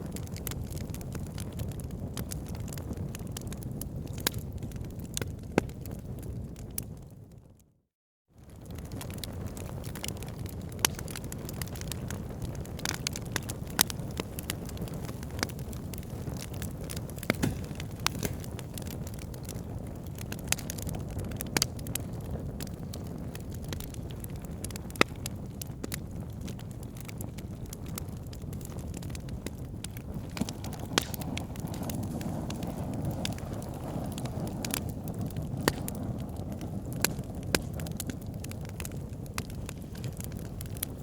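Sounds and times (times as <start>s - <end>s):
flames rushing: 0.0s - 6.9s, 8.4s - 41.0s
fire crackling and popping: 0.0s - 7.7s, 8.4s - 41.0s.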